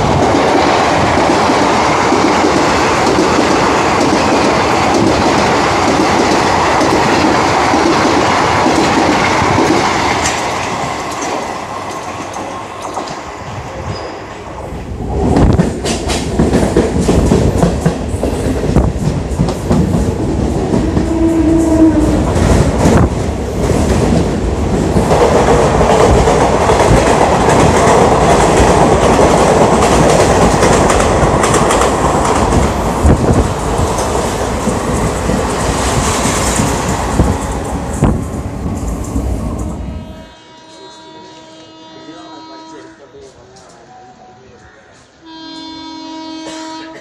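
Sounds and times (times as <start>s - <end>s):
train wheels clattering over rail joints: 0.0s - 13.2s, 15.2s - 39.7s
passing trains rumbling: 0.0s - 47.0s.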